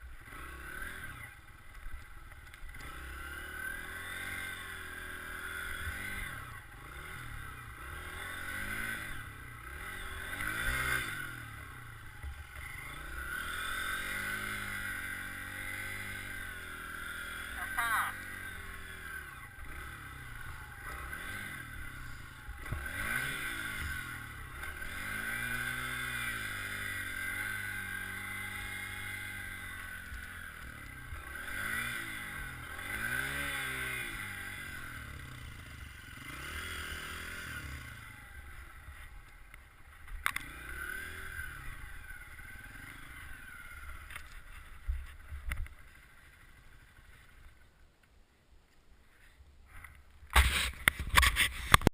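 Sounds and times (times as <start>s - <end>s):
dirt bike engine revving: 0.0s - 47.6s.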